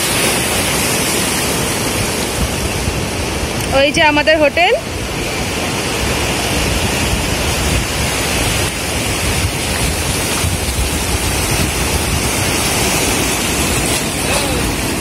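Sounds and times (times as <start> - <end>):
sea surf washing in: 0.0 - 15.0
wind buffeting microphone: 0.0 - 15.0.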